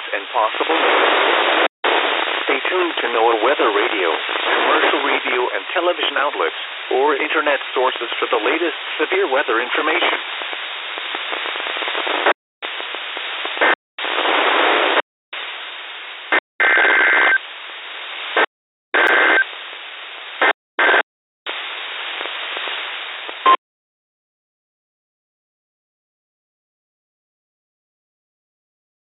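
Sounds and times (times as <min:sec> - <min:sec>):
hissing radio static: 0:00.0 - 0:23.6.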